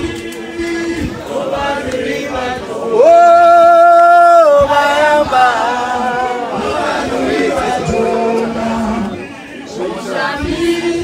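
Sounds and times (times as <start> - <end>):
group of voices singing chant: 0.0 - 11.0.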